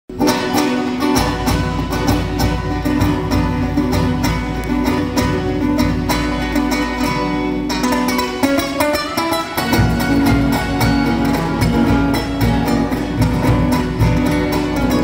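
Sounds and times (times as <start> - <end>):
acoustic guitars plucked and strummed: 0.1 - 15.0.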